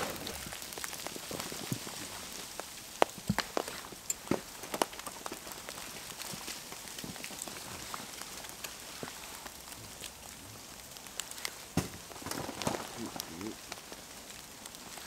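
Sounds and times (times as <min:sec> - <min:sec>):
campfire crackling and hissing: 0:00.0 - 0:15.0
fire snapping: 0:00.0 - 0:15.0.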